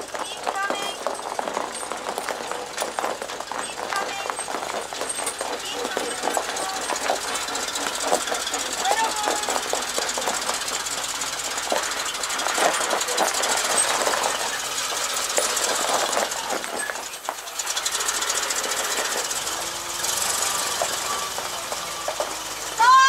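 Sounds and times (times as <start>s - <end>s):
tires rolling over gravel: 0.0s - 23.0s
truck engine running: 0.0s - 23.0s.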